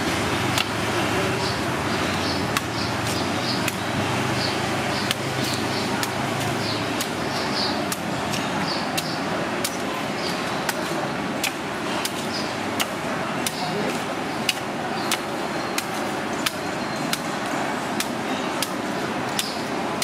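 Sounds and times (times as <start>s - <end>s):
street traffic: 0.0s - 20.0s
knife cutting coconut husk: 0.4s - 20.0s.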